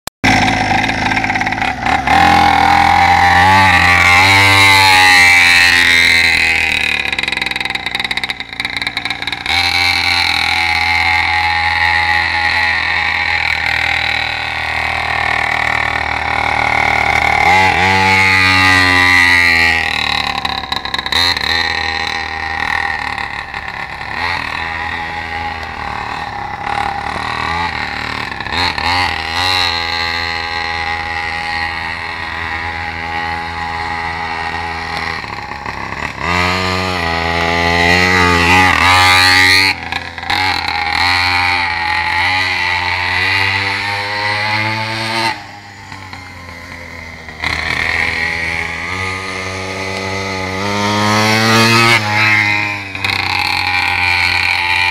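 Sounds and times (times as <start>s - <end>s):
mini motorbike engine revving: 0.2s - 54.9s.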